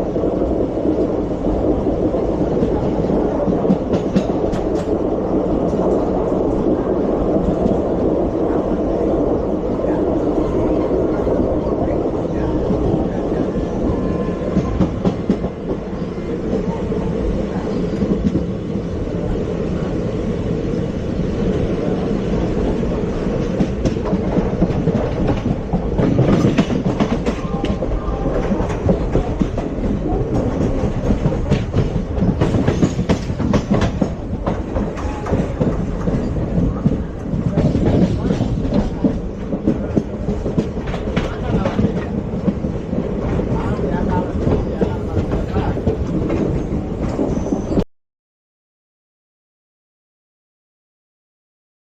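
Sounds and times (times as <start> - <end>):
train coach rumbling: 0.0 - 47.8.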